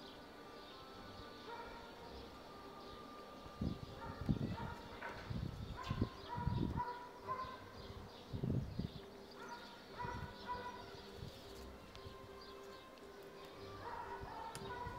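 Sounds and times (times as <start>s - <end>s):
birds calling and chirping: 0.0s - 14.9s.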